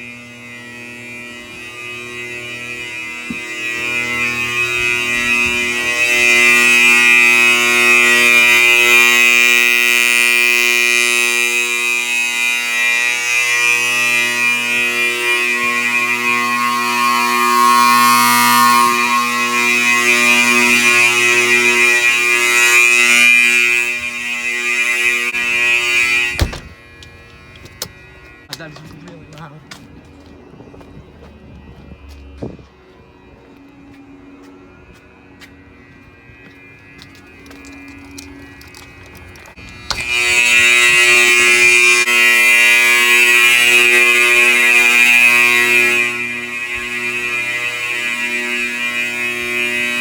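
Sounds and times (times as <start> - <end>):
fire alarm horns buzzing: 0.0 - 50.0.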